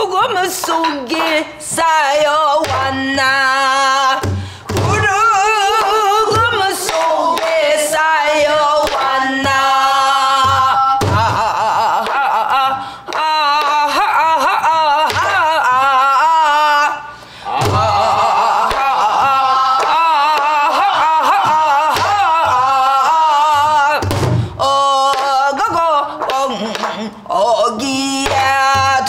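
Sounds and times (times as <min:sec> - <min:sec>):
woman singing folk song: 0:00.0 - 0:17.2, 0:18.1 - 0:29.0.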